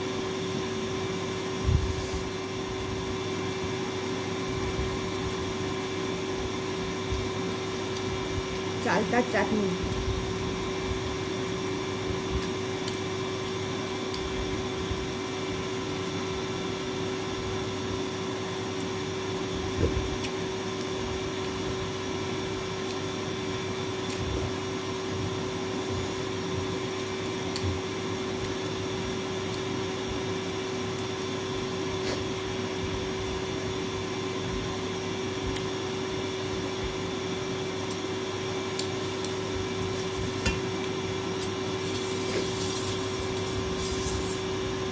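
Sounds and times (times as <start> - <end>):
mechanical hum: 0.0 - 44.9.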